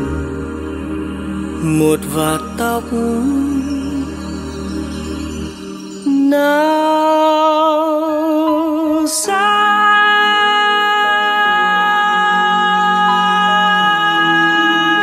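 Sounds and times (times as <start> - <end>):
sustained instrumental chords: 0.0 - 15.0.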